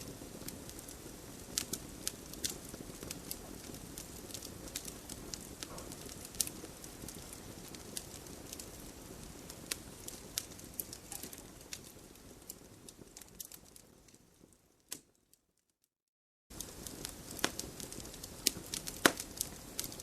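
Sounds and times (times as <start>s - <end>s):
campfire crackling and popping: 0.0s - 15.4s, 16.5s - 20.0s.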